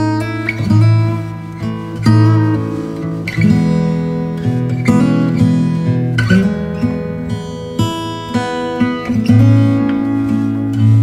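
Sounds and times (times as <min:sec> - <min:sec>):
acoustic guitar playing chords: 0:00.0 - 0:11.0.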